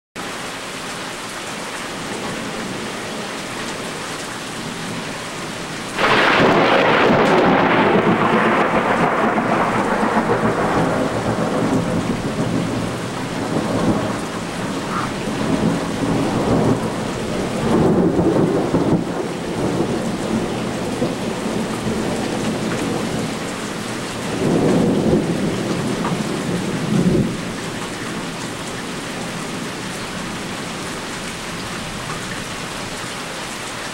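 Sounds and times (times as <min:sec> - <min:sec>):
heavy rain: 0:00.2 - 0:33.9
thunder cracking and rumbling: 0:01.9 - 0:30.9.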